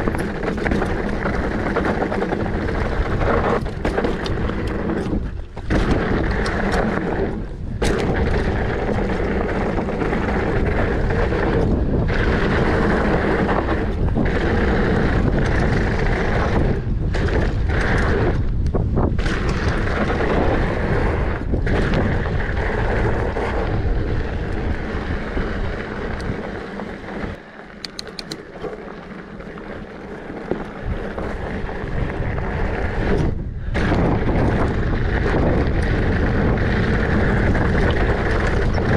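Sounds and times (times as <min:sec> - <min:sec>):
bike tyres rolling on gravel: 0:00.0 - 0:38.9
wind buffeting microphone: 0:00.0 - 0:38.9.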